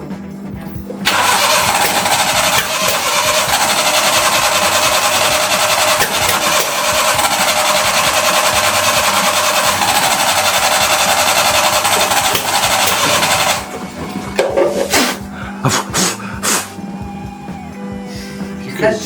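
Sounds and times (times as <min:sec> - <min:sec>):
truck engine running: 0:01.0 - 0:17.1.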